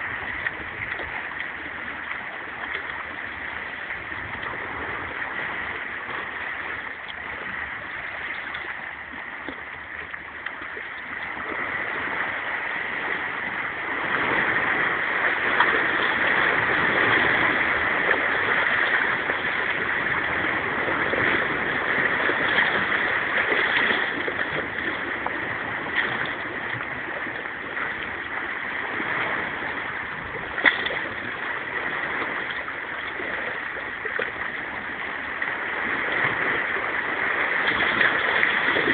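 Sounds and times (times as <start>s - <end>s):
waves lapping on rocks: 0.0s - 38.9s.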